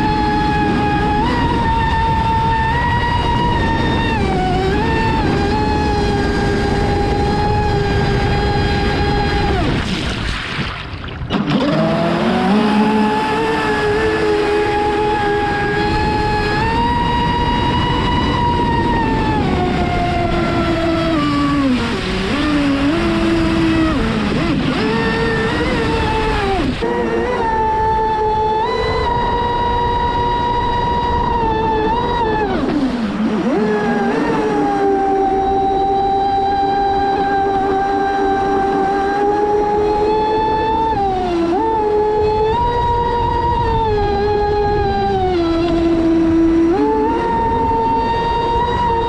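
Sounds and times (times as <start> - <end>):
electric motor whining: 0.0 - 9.9, 11.3 - 49.0
water rushing: 0.0 - 49.0.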